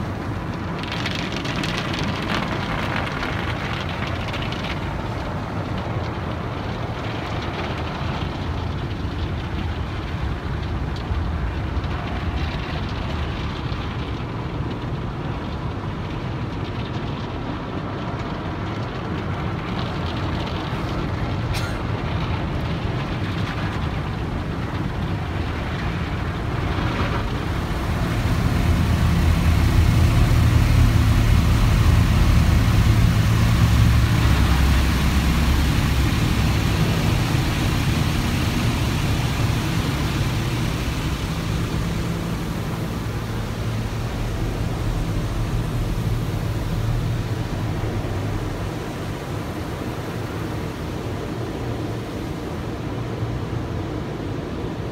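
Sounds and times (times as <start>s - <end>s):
low machinery rumble: 0.0s - 54.9s
water spray hissing on car: 0.0s - 54.9s.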